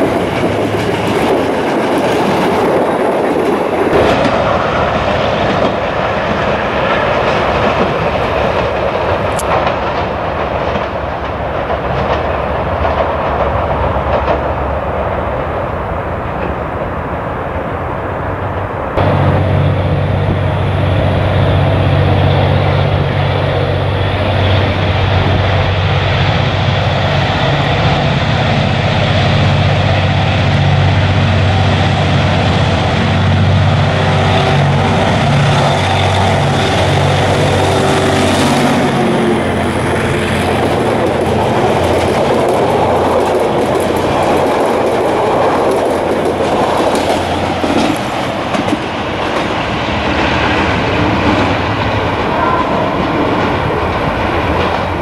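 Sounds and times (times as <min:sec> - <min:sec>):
diesel locomotive engine humming: 0:00.0 - 0:55.0
train coaches rumbling past: 0:00.0 - 0:55.0
wheels clacking over rail joints: 0:00.0 - 0:55.0.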